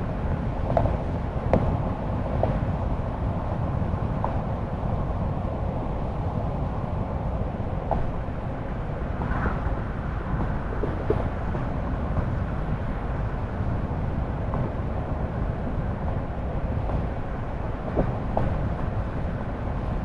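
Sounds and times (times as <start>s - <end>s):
car driving on road: 0.0s - 20.0s.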